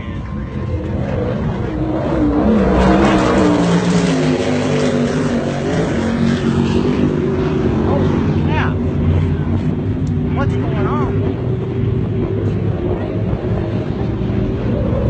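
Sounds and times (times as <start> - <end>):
powerboat engines running hard: 0.0 - 15.0.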